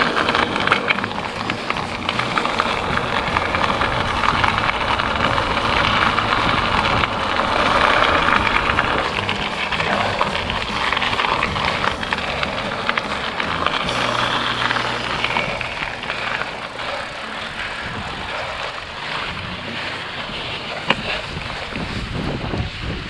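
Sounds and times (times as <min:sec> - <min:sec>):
small rattles and clicks: 0:00.0 - 0:22.8
bicycle tyre noise: 0:00.0 - 0:23.0
wind noise on microphone: 0:00.0 - 0:23.0.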